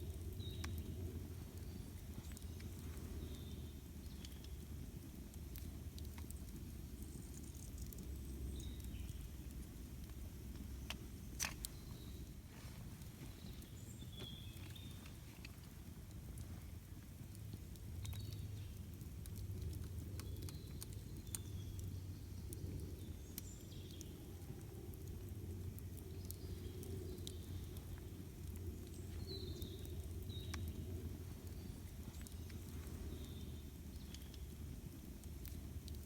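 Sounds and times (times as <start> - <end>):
campfire crackling and popping: 0.0 - 36.0
low steady rumble: 0.0 - 36.0.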